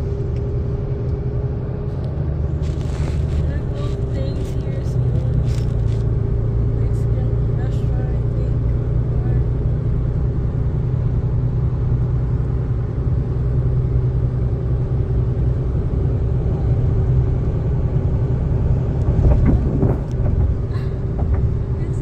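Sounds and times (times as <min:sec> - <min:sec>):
road and engine rumble in cab: 0:00.0 - 0:22.0.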